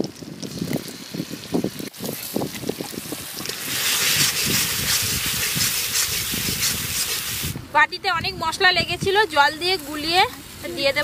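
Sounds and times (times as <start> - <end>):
paste sizzling in hot oil: 0.4 - 7.6, 8.6 - 11.0.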